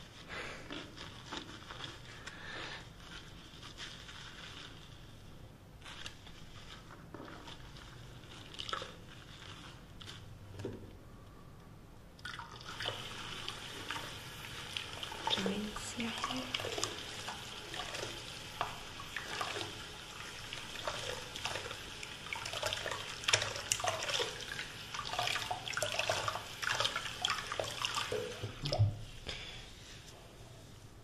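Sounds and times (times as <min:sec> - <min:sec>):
wet hair lather squishing: 0:00.0 - 0:05.1, 0:05.8 - 0:10.3, 0:12.2 - 0:28.8.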